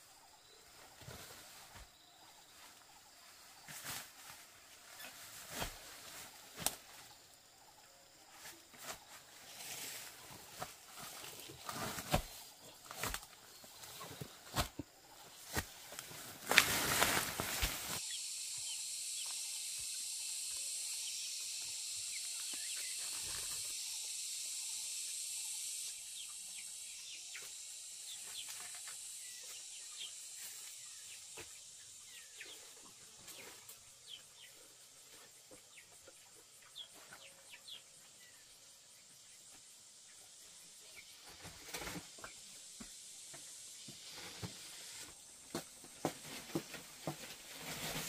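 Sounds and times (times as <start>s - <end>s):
high-pitched insect hiss: 0.0s - 48.0s.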